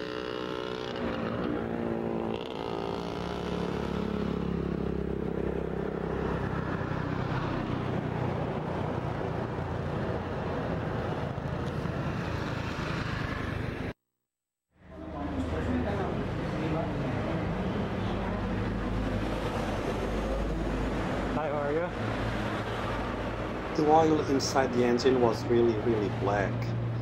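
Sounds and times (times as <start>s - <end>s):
road and wind noise: 0.0s - 14.0s, 14.8s - 27.0s.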